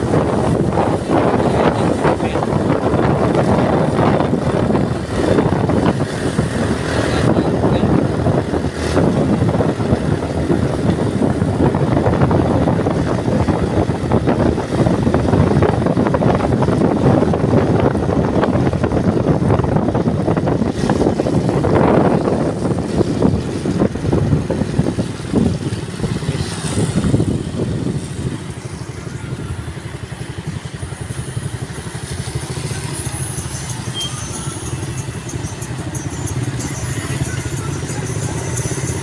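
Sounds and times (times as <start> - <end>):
moving vehicle rumble: 0.0 - 39.0
wind buffeting microphone: 0.0 - 39.0.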